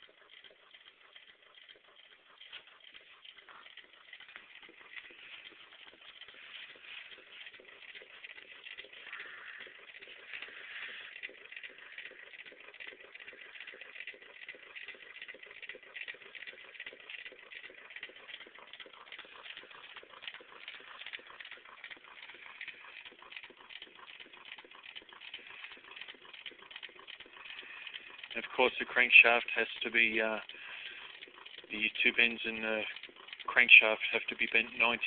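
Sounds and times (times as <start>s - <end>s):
small engine quick clicking: 0.0s - 35.0s.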